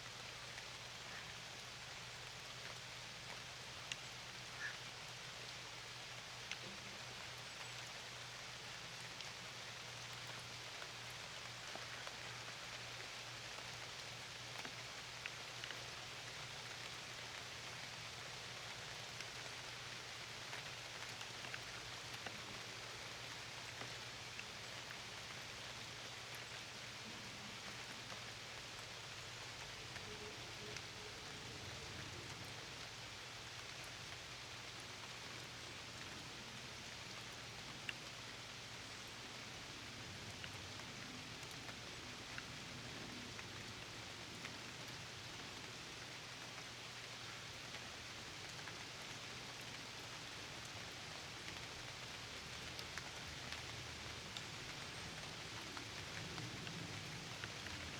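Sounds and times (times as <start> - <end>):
steady rain: 0.0 - 57.9.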